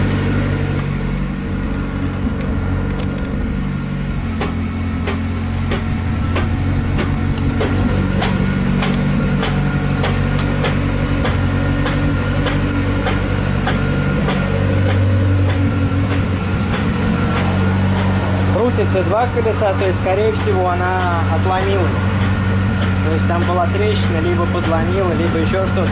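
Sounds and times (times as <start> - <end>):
car engine running in gear: 0.0 - 25.9.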